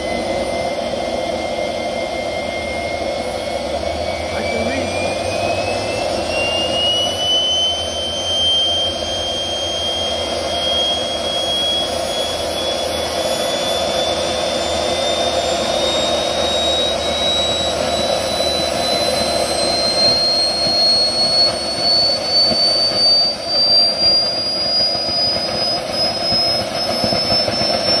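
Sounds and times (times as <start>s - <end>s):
jet engine spooling up: 0.0s - 28.0s.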